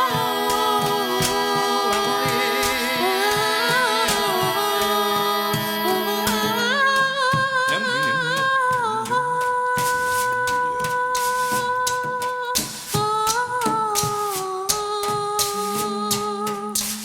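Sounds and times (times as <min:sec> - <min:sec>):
light percussive taps: 0:00.0 - 0:17.0
person singing wordlessly: 0:00.0 - 0:17.0.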